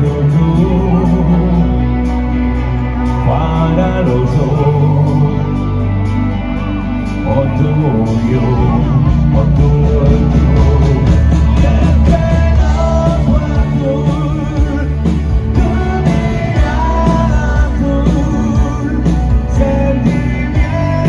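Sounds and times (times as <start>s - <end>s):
rock band instrumental: 0.0s - 21.0s.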